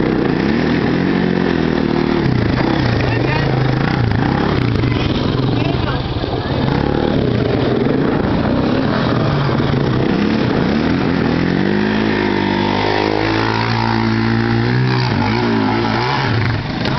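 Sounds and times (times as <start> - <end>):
four-wheeler engine accelerating: 0.0 - 16.9
other four-wheelers running: 0.0 - 16.9.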